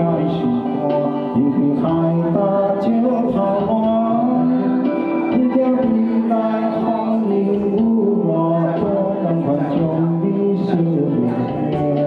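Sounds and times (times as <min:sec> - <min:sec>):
backing music: 0:00.0 - 0:12.0
man singing into microphone: 0:00.0 - 0:12.0.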